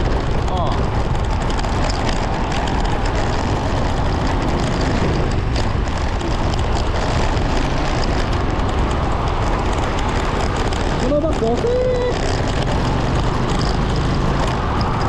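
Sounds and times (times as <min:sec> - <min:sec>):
motorcycle running: 0:00.0 - 0:15.0
wind over microphone: 0:00.0 - 0:15.0.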